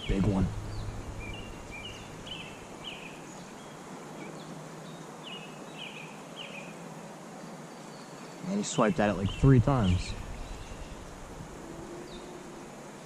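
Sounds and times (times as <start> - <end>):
bird chirping: 0.0 - 6.8, 7.8 - 12.6
steady background hiss: 0.0 - 13.0.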